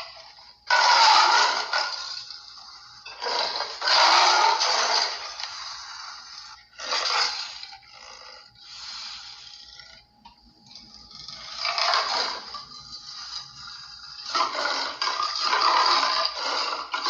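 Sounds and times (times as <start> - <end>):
raspy creature snarls: 0.7 - 2.6, 3.2 - 10.0, 11.3 - 17.0.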